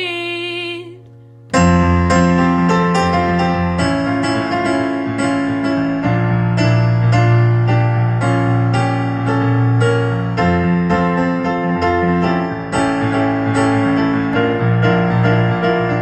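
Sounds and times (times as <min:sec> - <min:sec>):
electric piano chords: 0:00.0 - 0:16.0.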